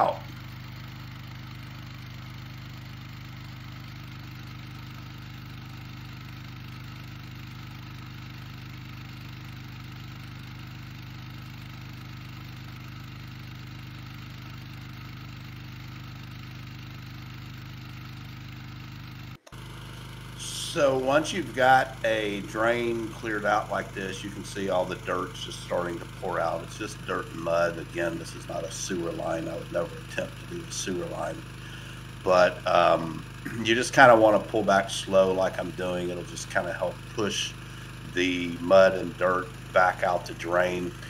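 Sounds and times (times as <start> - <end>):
pressure washer engine running: 0.0 - 41.0.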